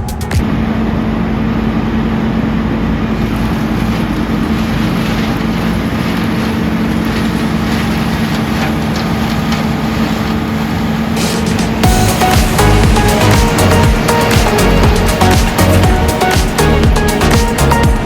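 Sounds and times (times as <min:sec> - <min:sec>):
heavy machine engine humming: 0:00.0 - 0:18.0.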